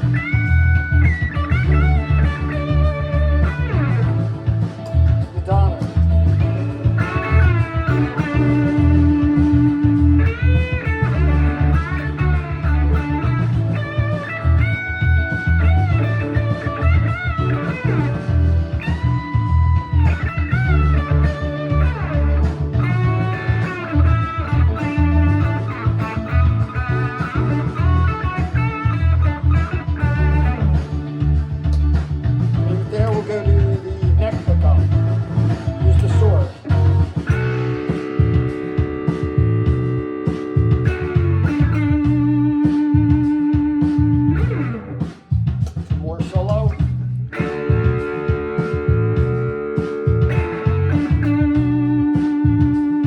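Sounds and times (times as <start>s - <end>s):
blues-rock backing track: 0.0s - 53.0s
distorted electric guitar solo: 0.0s - 53.0s.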